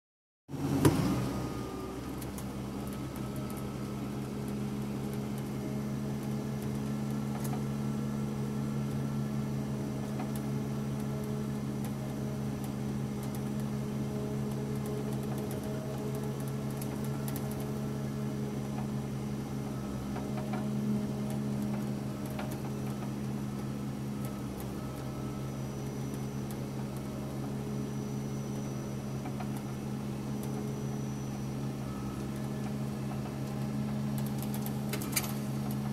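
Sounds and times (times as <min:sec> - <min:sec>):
diesel engine hum from cab: 0:00.5 - 0:35.9.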